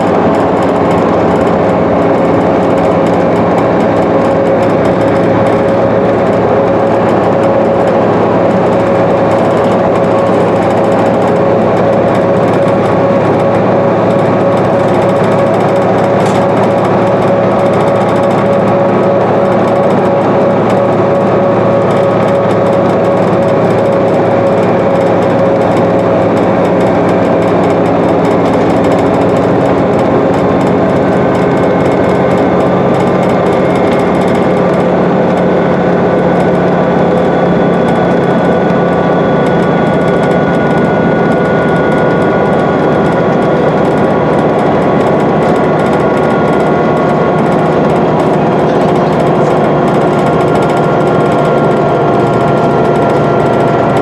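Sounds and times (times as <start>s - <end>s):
bus diesel engine running: 0.0s - 54.0s
road and tyre noise: 0.0s - 54.0s
whining tones: 0.0s - 54.0s.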